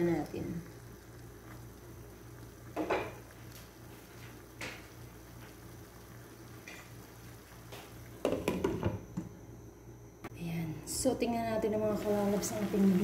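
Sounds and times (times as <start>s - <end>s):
squid sizzling in a pan: 0.0s - 9.0s, 11.5s - 13.0s
steady low hum: 0.0s - 13.0s.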